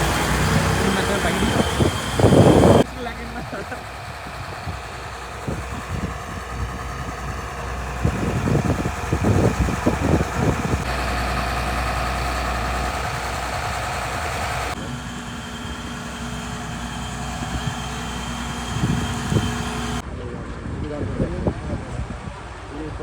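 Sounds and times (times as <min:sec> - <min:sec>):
harvester engine rumbling: 0:00.0 - 0:20.1.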